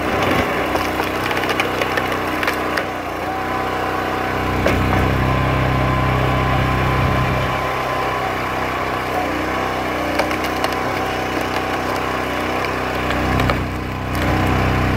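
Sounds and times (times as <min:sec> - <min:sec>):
wood splitting cracks: 0:00.0 - 0:05.4, 0:07.5 - 0:14.9
log splitter engine running: 0:00.0 - 0:14.9.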